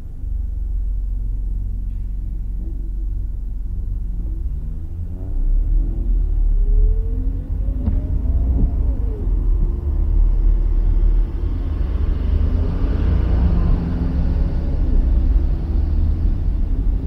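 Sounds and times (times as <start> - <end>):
deep road rumble: 0.0 - 17.0.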